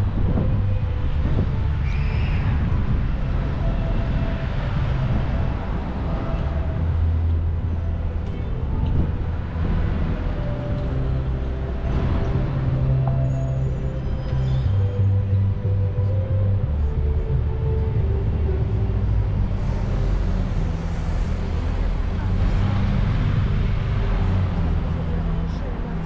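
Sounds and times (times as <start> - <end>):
street noise: 0.0 - 26.0
vehicle engines running: 0.0 - 26.0.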